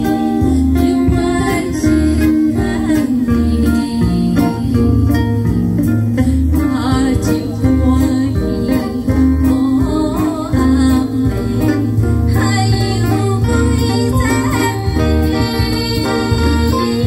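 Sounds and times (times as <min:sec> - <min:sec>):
guitar accompaniment: 0:00.0 - 0:17.0
woman singing into a microphone: 0:00.0 - 0:17.0.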